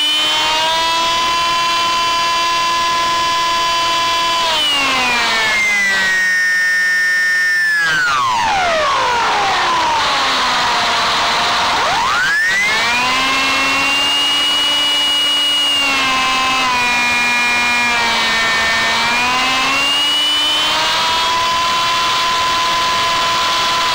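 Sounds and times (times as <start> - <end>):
electric motor and propeller whine: 0.0 - 23.9.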